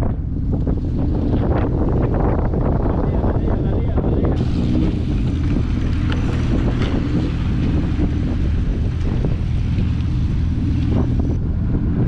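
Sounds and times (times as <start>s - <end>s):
boat engine drone: 0.0s - 12.0s
water washing against hull: 0.0s - 12.0s
wind buffeting microphone: 0.0s - 12.0s.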